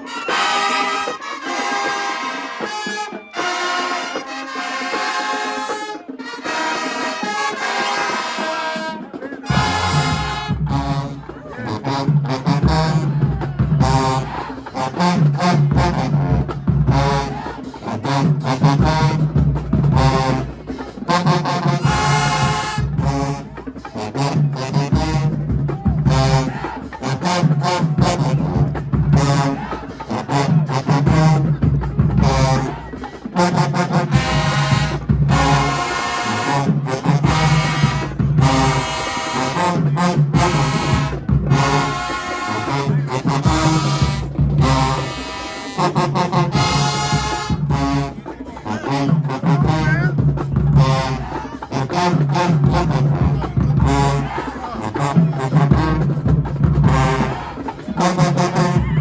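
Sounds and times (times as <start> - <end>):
brass horns: 0.0 - 59.0
drum beat: 0.0 - 59.0.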